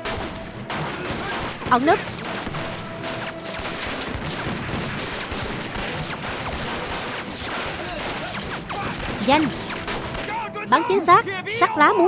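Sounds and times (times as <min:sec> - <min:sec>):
rifles firing: 0:00.0 - 0:10.5
film score music: 0:00.0 - 0:12.0.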